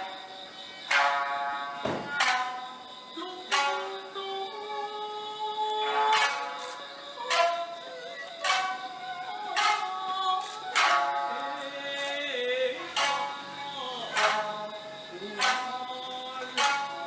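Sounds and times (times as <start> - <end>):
music with singing: 3.1 - 17.0.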